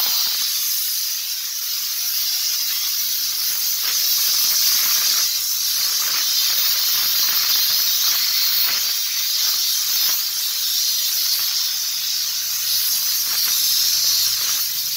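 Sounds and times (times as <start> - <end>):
steam jet hissing: 0.0 - 14.9.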